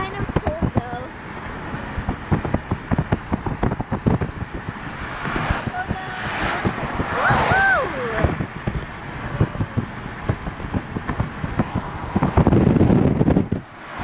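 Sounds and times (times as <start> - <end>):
road and wind noise inside car: 0.0 - 14.0
wind buffeting microphone: 0.0 - 14.0.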